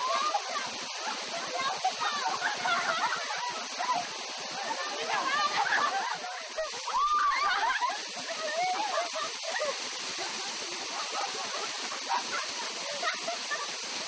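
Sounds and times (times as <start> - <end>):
women laughing and crying out: 0.0 - 13.8
waterfall rushing: 0.0 - 14.0.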